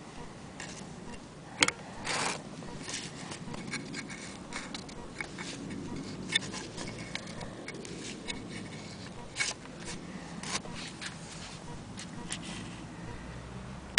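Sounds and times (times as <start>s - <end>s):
handling clicks and scrapes: 0.0s - 12.9s
low background hum: 0.0s - 13.9s.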